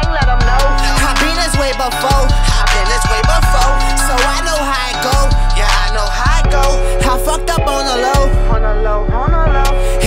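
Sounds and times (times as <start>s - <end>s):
hip hop music: 0.0s - 10.0s.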